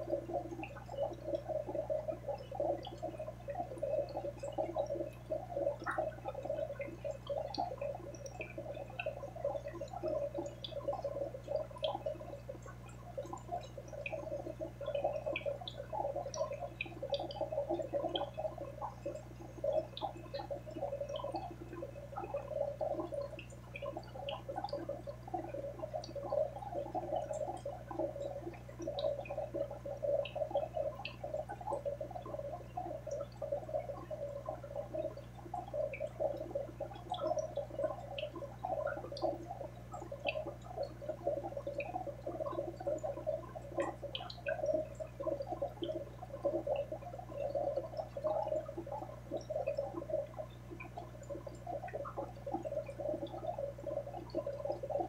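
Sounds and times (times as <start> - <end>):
aquarium water bubbling: 0.0 - 55.0
small drip-like pops: 0.0 - 55.0.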